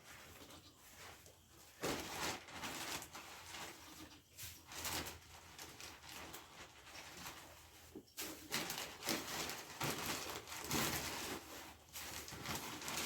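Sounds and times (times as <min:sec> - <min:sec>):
wood shavings rustling: 0:01.0 - 0:13.0.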